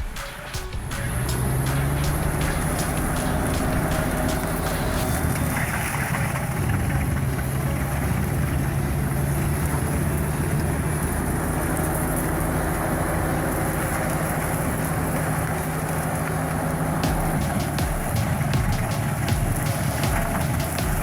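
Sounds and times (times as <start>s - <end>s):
heavy machine engine running: 0.0s - 21.0s.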